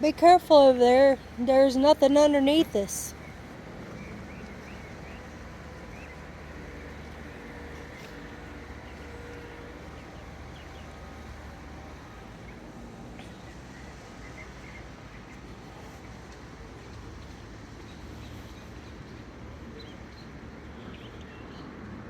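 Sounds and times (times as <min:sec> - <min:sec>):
constant low hum: 0:00.0 - 0:21.6.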